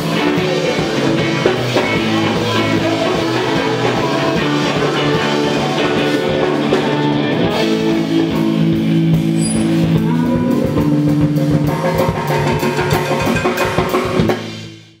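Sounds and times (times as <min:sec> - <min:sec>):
drum kit beat: 0:00.0 - 0:14.9
electric guitars holding notes: 0:00.0 - 0:14.9.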